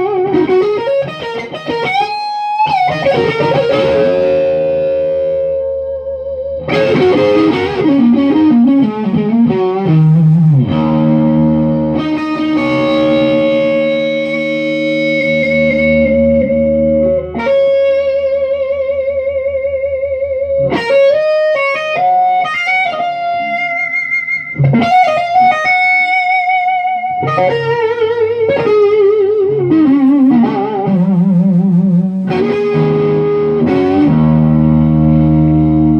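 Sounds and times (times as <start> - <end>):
overdriven electric guitar: 0.0 - 35.9.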